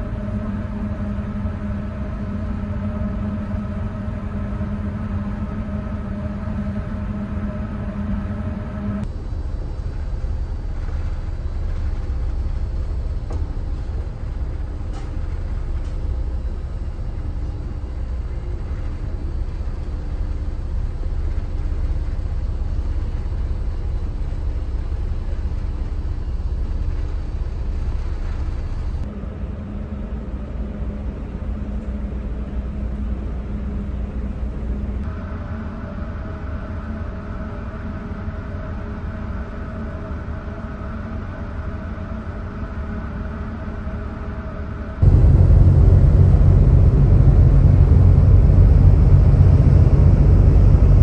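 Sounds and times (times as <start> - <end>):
ship engines rumbling: 0.0 - 42.3, 43.9 - 51.0.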